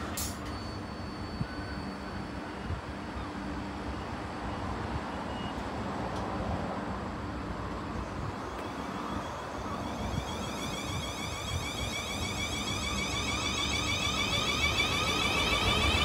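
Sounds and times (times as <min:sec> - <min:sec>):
train wheels rumbling on rail: 0:00.0 - 0:05.0, 0:05.6 - 0:16.0
train whine: 0:00.0 - 0:05.3, 0:06.0 - 0:16.0.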